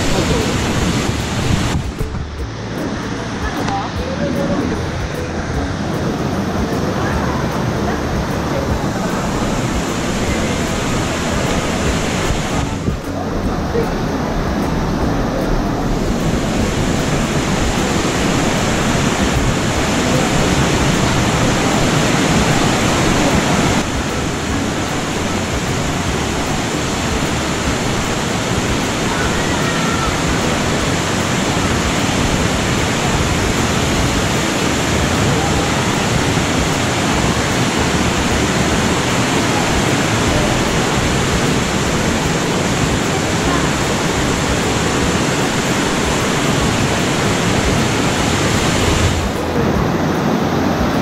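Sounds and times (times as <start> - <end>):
rushing water roar: 0.0 - 51.0.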